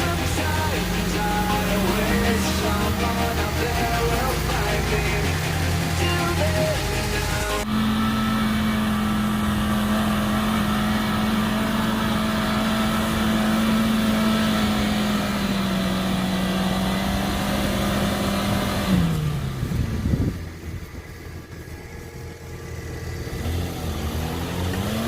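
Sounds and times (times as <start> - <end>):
engine at high revs: 0.0 - 25.0.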